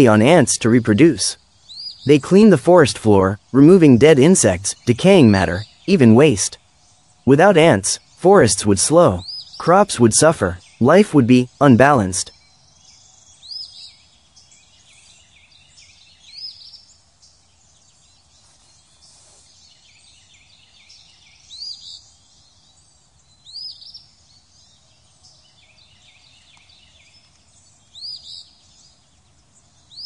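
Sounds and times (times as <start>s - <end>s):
bird chirped calls: 0.0s - 30.0s.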